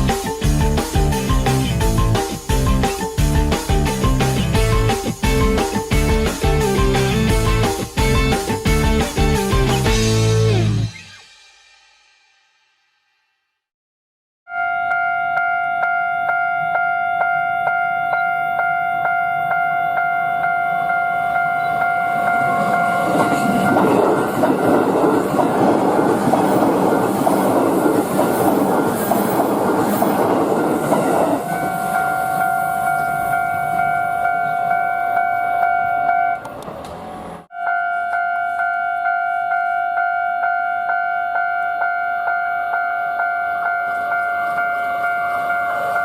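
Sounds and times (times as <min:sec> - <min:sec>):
electric train passing: 0:00.0 - 0:11.8, 0:14.9 - 0:46.0.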